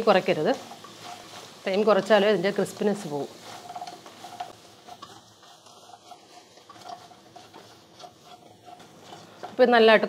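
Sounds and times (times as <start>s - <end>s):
wooden spatula tapping and scraping pan: 0.1s - 10.0s.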